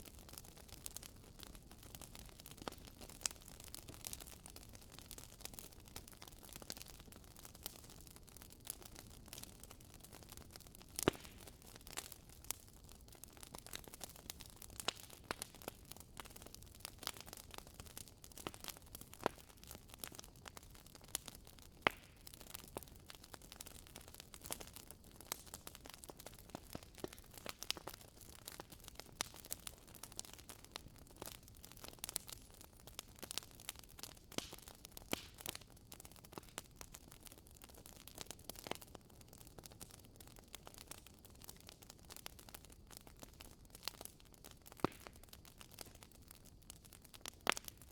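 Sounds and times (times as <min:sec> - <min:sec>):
fire crackling in a fireplace: 0:00.0 - 0:47.9.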